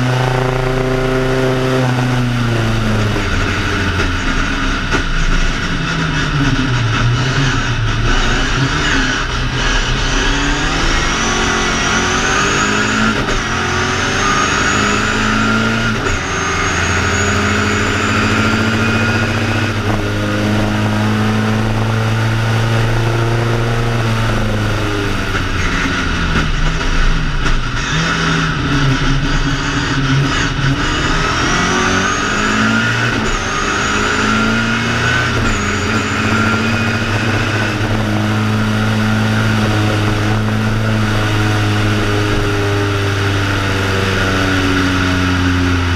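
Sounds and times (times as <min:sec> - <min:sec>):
race car engine revving through gears: 0:00.0 - 0:45.9.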